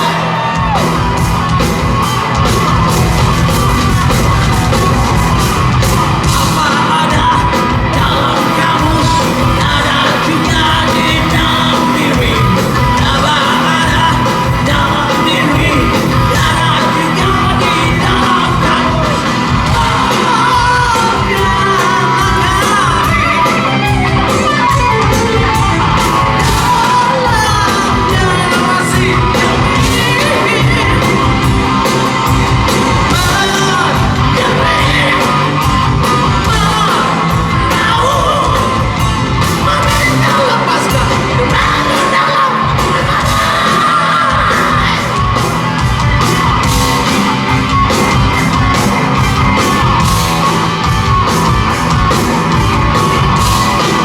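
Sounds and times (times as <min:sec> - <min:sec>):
crowd singing and shouting: 0:00.0 - 0:54.0
live rock band playing: 0:00.0 - 0:54.0.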